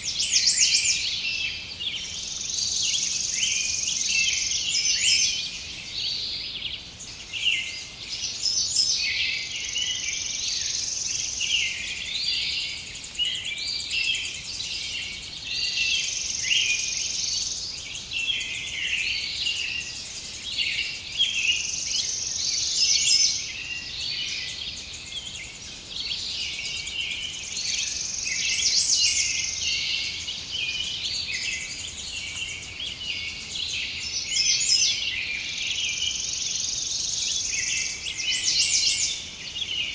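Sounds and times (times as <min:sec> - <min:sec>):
birds chirping chorus: 0:00.0 - 0:39.9
high steady hiss: 0:00.0 - 0:39.9.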